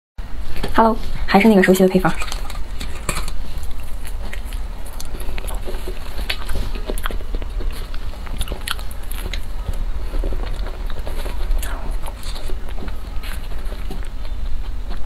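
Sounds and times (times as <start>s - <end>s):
low hum: 0.2s - 15.0s
biting and chewing cake: 2.1s - 15.0s.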